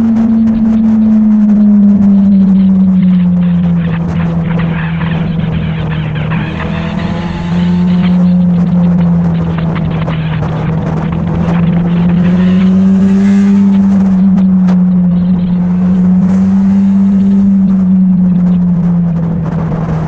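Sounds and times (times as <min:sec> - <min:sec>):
motorcycle engine running: 0:00.0 - 0:20.0
rushing wind: 0:00.0 - 0:20.0.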